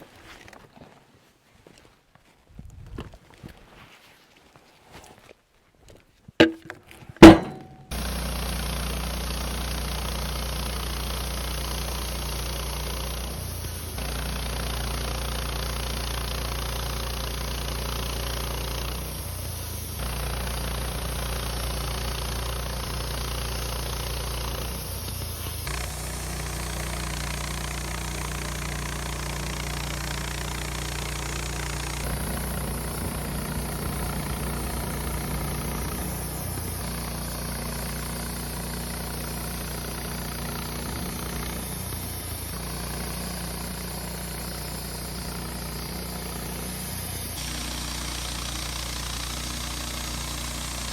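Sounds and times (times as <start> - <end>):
band sawmill sawing log: 7.2 - 50.9.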